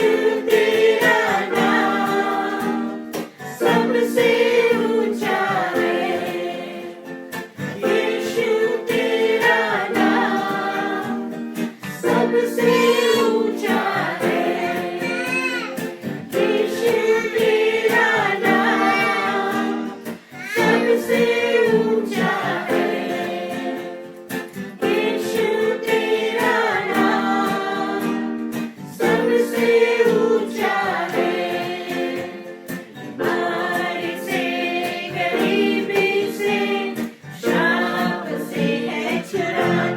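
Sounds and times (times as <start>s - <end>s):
group singing a worship song: 0.0s - 39.9s
plucked strings: 0.0s - 39.9s.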